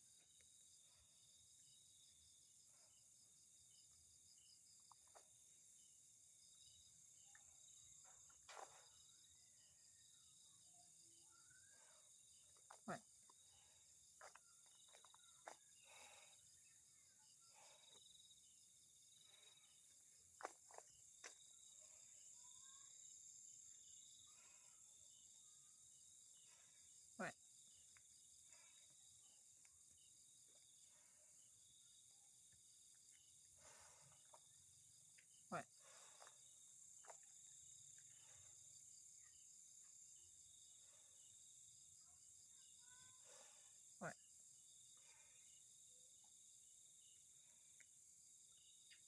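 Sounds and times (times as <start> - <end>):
night insects chirring: 0.0 - 49.0.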